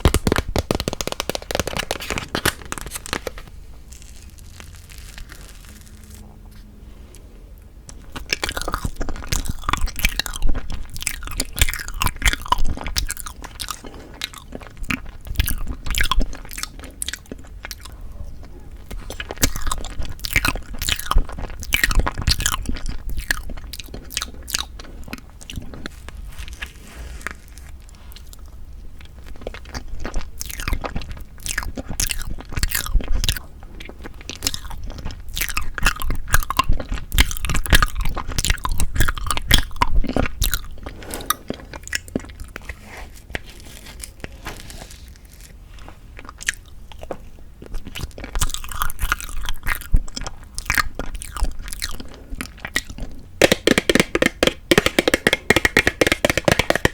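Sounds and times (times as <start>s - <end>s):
mouth chewing cake: 1.1s - 56.9s.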